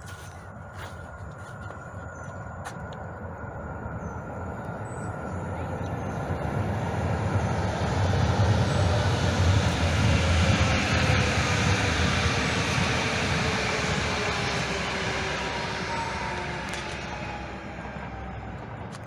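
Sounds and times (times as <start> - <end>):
faint falling whine: 0.0 - 19.0
light-rail train rumbling: 0.0 - 19.0.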